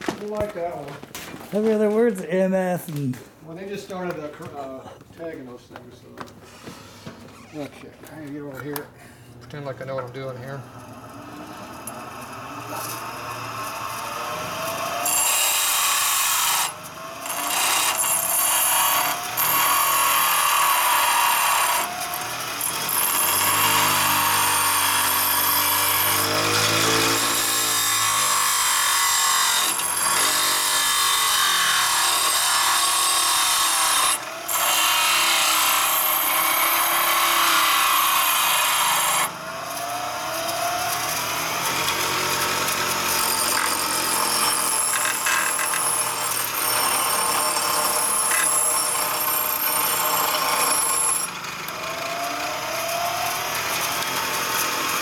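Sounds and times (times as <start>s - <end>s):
power grinder grinding steel: 10.4s - 55.0s.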